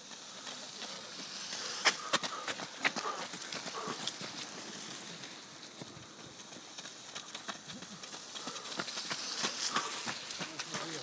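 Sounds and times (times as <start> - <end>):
bike tyres hissing on wet track: 0.0 - 11.0
running footsteps on gravel: 0.0 - 11.0.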